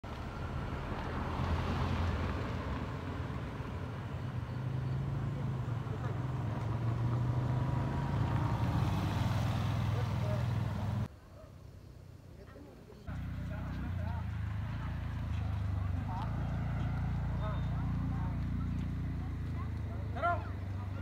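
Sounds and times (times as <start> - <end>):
car engine driving off: 0.0 - 11.1, 13.1 - 21.0.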